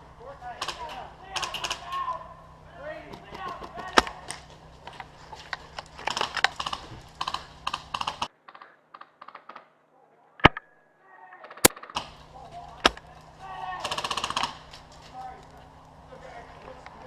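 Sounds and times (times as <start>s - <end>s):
airsoft guns firing: 0.0s - 9.8s, 11.5s - 15.4s.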